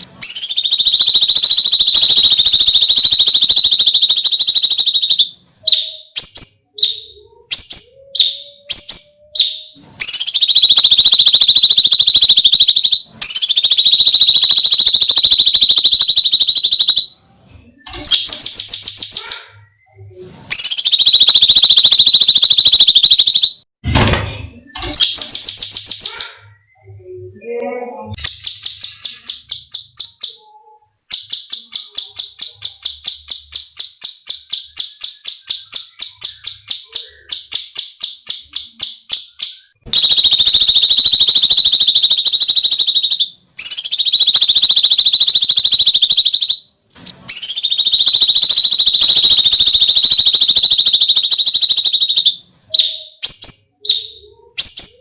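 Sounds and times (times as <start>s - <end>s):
bird fast repeated notes: 0.0s - 19.8s, 20.5s - 23.7s, 24.6s - 26.7s, 28.2s - 30.5s, 31.1s - 55.0s.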